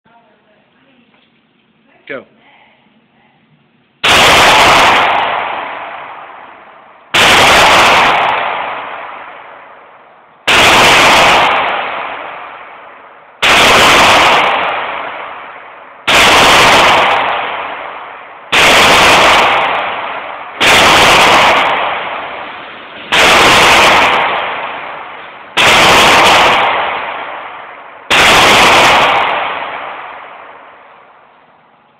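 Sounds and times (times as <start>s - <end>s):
echoing gunshots: 4.0s - 31.7s.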